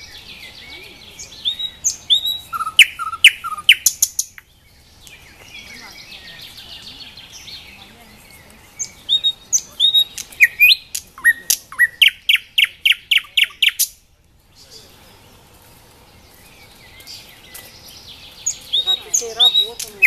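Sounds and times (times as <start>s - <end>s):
nightingale singing: 0.0s - 20.0s.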